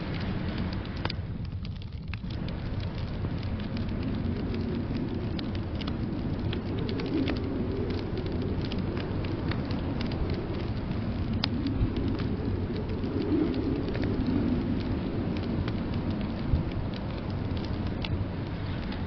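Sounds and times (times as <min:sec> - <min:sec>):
blizzard wind rumble: 0:00.0 - 0:19.0
wood fire crackling and popping: 0:00.0 - 0:19.0.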